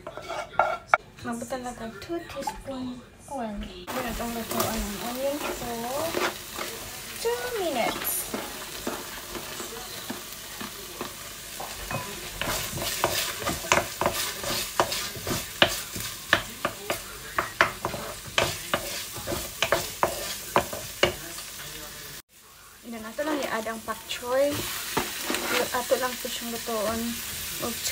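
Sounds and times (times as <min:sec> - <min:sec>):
onion sizzling in oil: 0:03.9 - 0:27.9.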